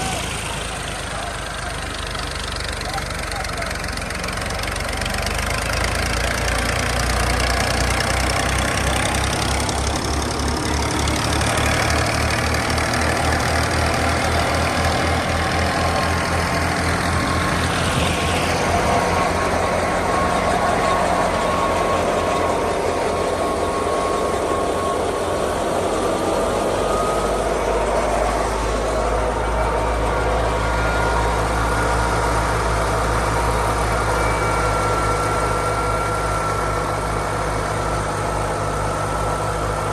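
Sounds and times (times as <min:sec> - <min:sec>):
tractor diesel engine running: 0:00.0 - 0:39.9
thresher rushing whir: 0:05.7 - 0:39.9
faint steady whines: 0:06.3 - 0:39.9.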